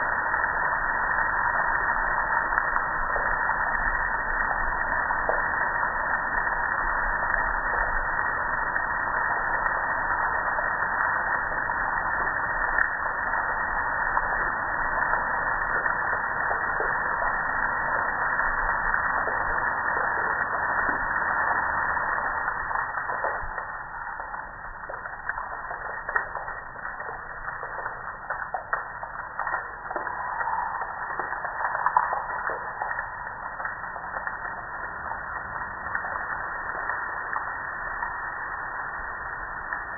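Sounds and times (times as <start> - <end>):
water dripping and splattering: 0.0 - 39.9.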